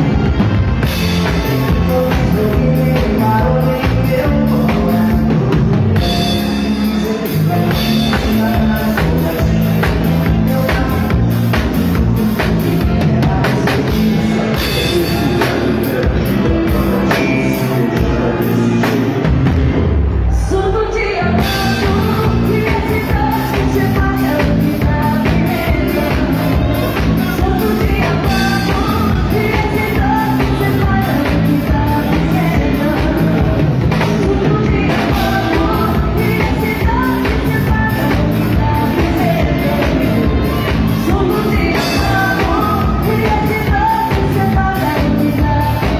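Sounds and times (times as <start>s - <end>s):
live band playing dance music: 0.0s - 45.9s
person singing: 0.0s - 45.9s.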